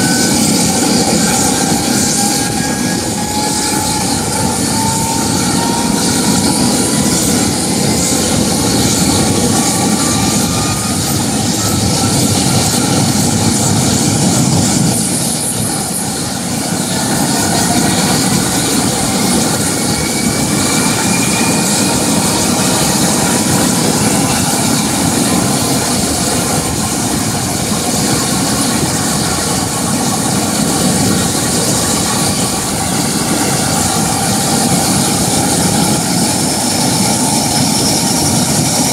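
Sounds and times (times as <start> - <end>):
faint turbine whine rising: 0.0 - 38.9
turbine and rotor noise: 0.0 - 38.9.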